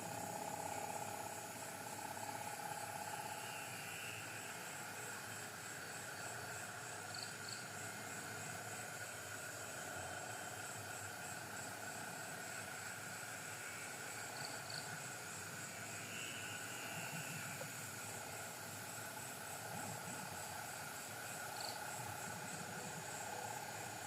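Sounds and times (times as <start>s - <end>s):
insect chorus: 0.0s - 24.0s
insect high pulsing trill: 0.0s - 24.0s.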